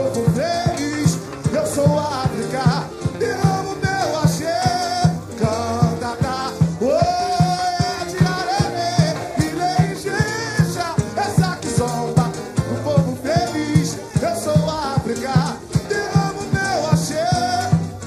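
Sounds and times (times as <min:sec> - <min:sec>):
deep drums on steady beat: 0:00.0 - 0:18.0
lead voice singing: 0:00.0 - 0:18.0.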